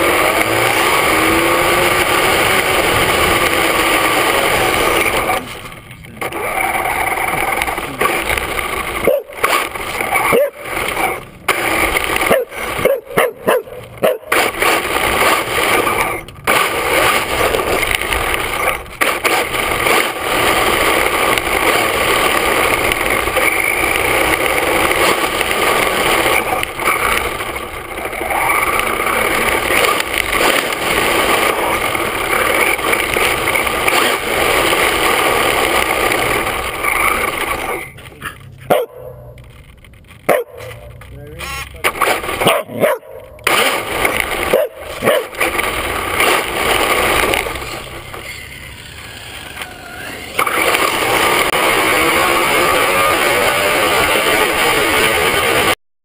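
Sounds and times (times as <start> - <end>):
electric motor and drivetrain whine: 0.0 - 38.1, 43.1 - 55.8
tyre and wind noise: 0.0 - 55.8.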